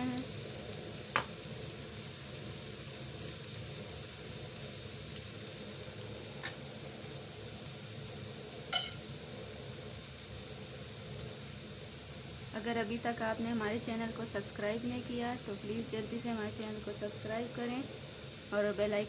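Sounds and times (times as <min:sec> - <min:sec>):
noodles sizzling in ghee: 0:00.0 - 0:19.0.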